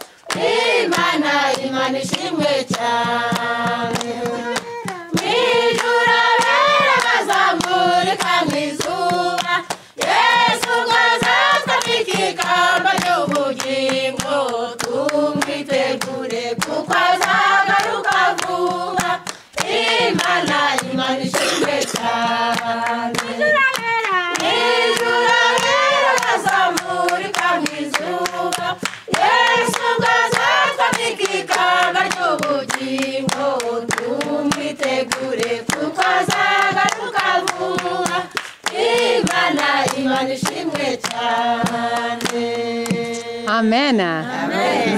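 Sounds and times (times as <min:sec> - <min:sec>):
hand clapping: 0:00.0 - 0:43.6
women singing a hymn: 0:00.0 - 0:44.9.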